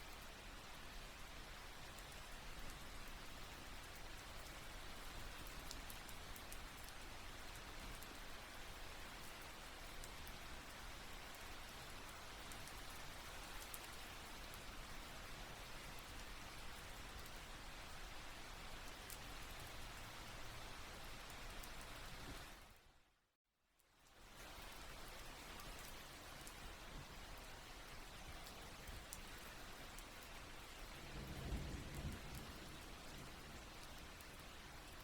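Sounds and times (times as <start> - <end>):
rain falling on a tent: 0.0 - 35.0.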